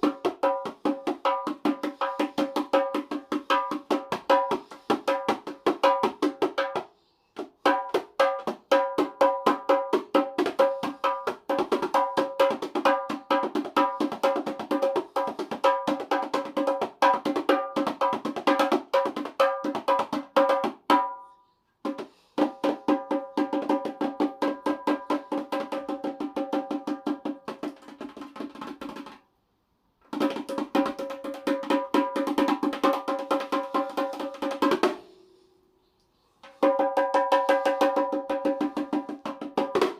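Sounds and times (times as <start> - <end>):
hand frame drums playing: 0.0 - 6.8, 7.6 - 21.2, 21.8 - 29.2, 30.1 - 35.0, 36.4 - 39.9.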